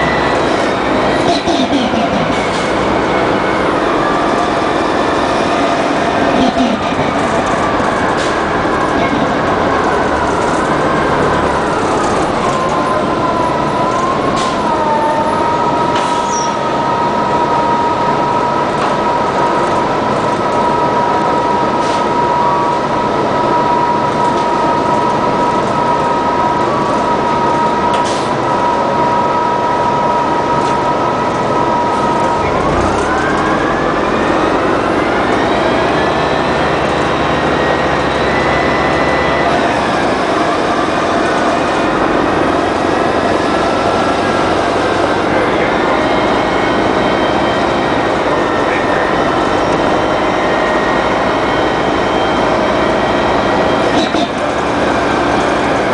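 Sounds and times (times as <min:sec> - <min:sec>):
bus engine running: 0:00.0 - 0:55.9
high transmission whine: 0:00.0 - 0:55.9.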